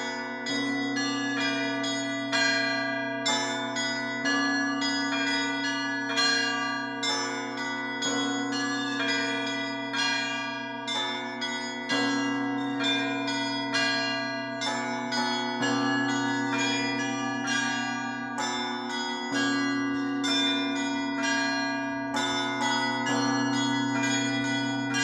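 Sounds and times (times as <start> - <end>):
deep church bell: 0.0 - 25.0
small high bells ringing: 0.0 - 25.0.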